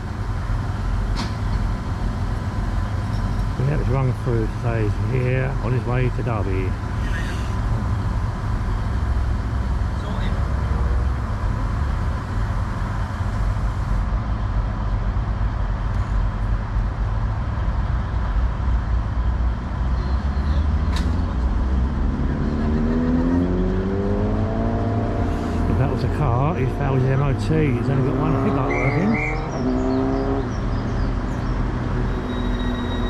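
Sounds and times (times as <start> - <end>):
diesel train engine idling and revving: 0.0 - 33.0.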